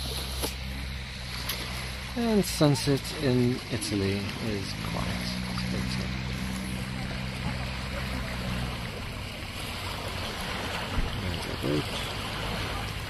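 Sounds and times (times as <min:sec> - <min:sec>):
low steady hum: 0:00.0 - 0:13.0
water lapping around a boat: 0:00.0 - 0:13.0.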